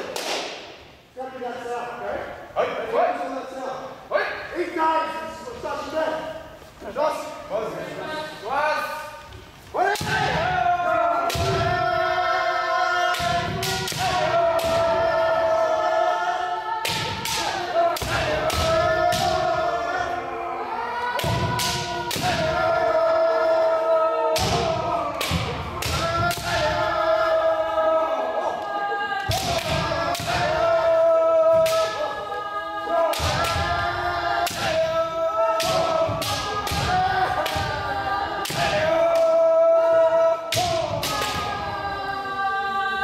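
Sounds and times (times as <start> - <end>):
players shouting: 8.0 - 43.0.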